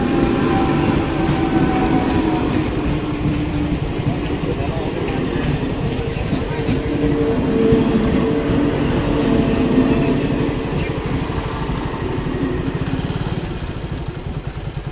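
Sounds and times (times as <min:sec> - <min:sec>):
electric train passing: 0:00.0 - 0:14.9
motorcycle engine idling: 0:00.0 - 0:14.9.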